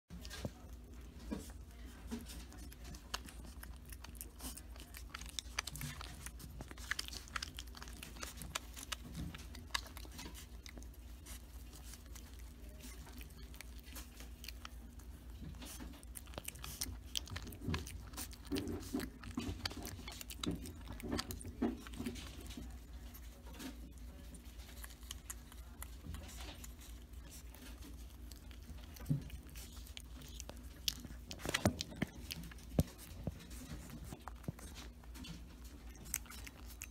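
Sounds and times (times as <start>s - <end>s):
groundhog chewing greens: 0.1s - 36.9s.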